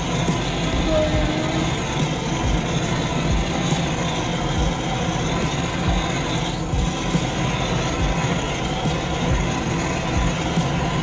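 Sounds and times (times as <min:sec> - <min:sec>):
blowtorch flame rushing: 0:00.0 - 0:11.0.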